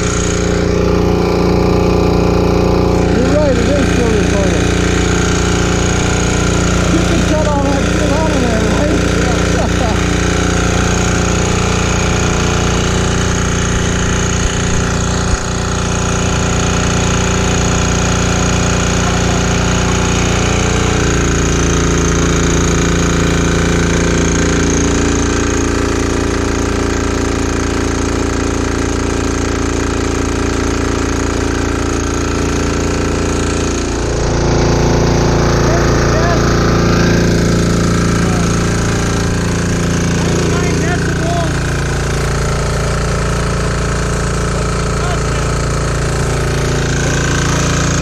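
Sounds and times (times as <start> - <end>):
diesel generator engine clattering: 0.0 - 48.0.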